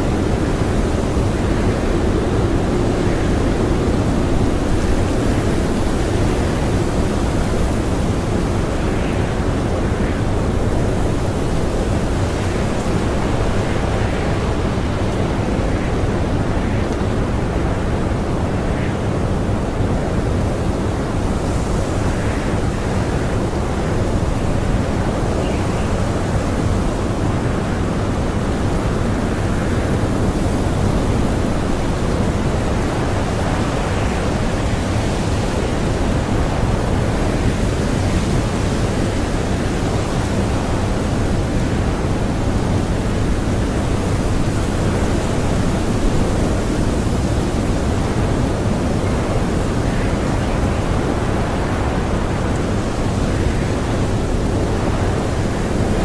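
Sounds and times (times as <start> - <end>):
strong blizzard wind: 0.0 - 56.0.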